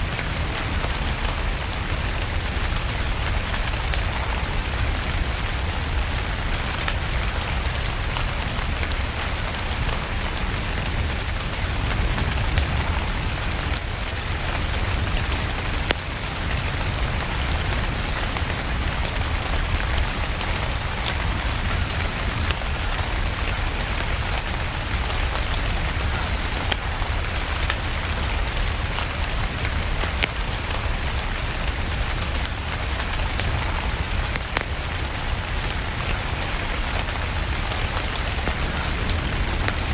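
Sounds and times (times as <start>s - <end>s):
sharp crackles: 0.0s - 39.9s
steady rain: 0.0s - 39.9s.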